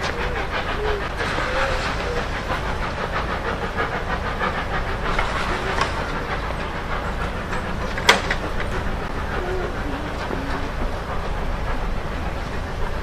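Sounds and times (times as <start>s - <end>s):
train rhythmic clatter: 0.0s - 13.0s.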